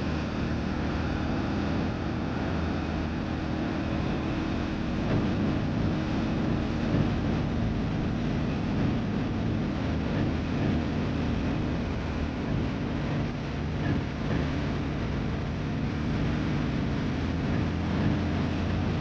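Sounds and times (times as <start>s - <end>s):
atv engine running: 0.0s - 19.0s
road and wind noise: 0.0s - 19.0s.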